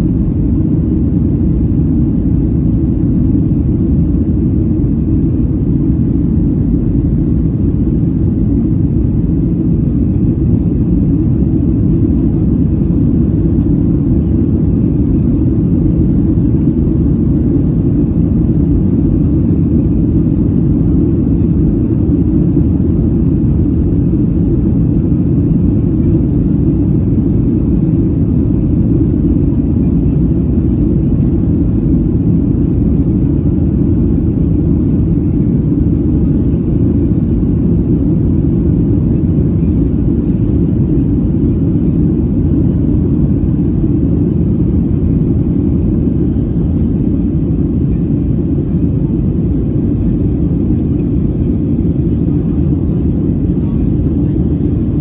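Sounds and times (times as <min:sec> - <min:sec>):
jet engine rumble: 0:00.0 - 0:55.0.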